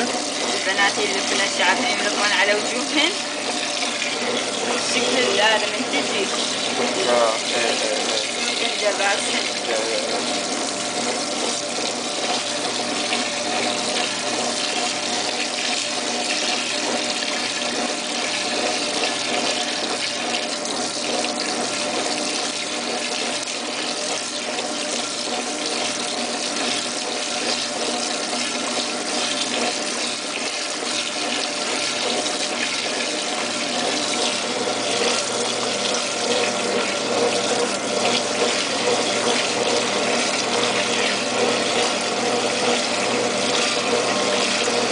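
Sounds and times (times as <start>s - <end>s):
washing machine water rushing: 0.0s - 44.9s.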